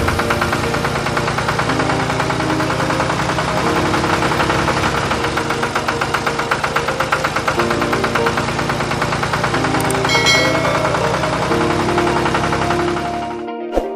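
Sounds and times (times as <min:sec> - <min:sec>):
small tractor engine running: 0:00.0 - 0:13.5.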